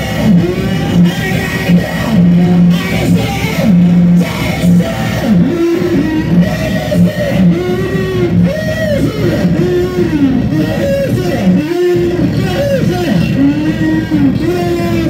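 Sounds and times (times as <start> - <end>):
gliding amplified tones: 0.0 - 15.0
low pulsing note: 0.3 - 15.0.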